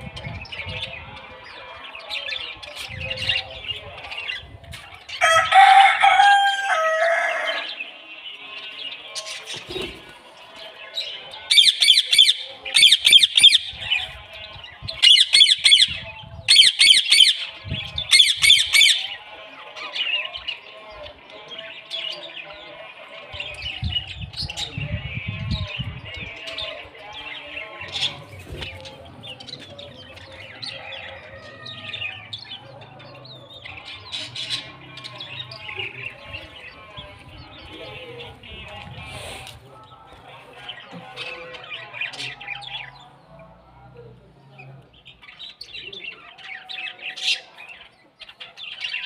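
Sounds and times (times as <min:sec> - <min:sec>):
birds chirping and twittering: 0:00.0 - 0:49.0.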